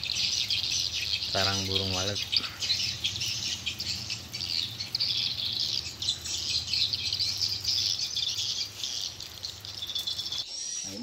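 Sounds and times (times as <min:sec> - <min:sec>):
swiftlets twittering: 0:00.0 - 0:11.0.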